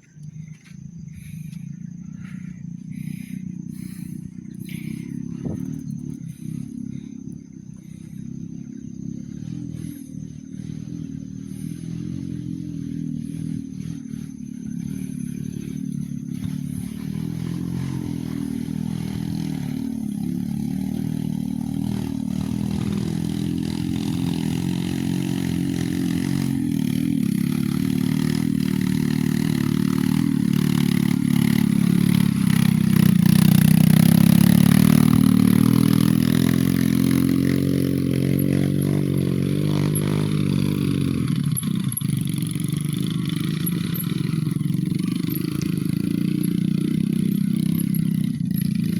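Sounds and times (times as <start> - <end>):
vehicle engine labouring uphill: 0.0 - 48.9.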